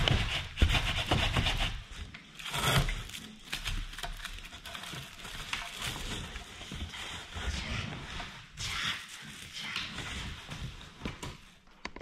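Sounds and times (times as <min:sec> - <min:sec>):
scrapes: 0:00.0 - 0:11.3
plastic and cardboard rustling: 0:00.0 - 0:12.0.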